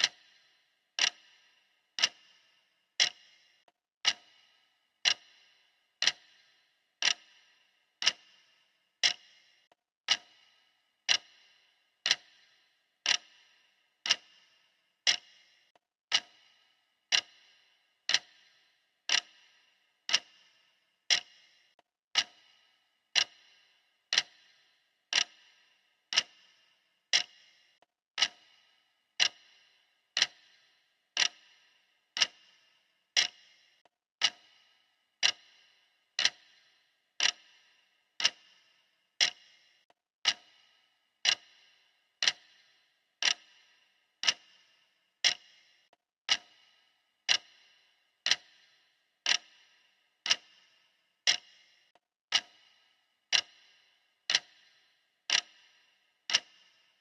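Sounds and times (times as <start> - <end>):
clock ticking: 0.0 - 57.0.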